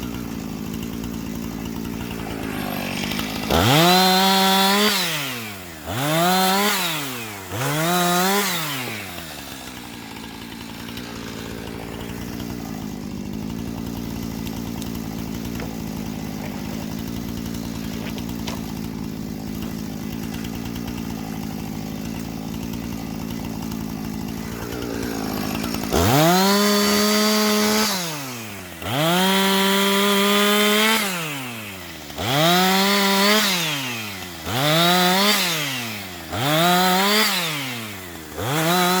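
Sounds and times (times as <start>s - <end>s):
chainsaw cutting wood: 0.0s - 39.0s
chainsaw idling: 0.0s - 39.0s.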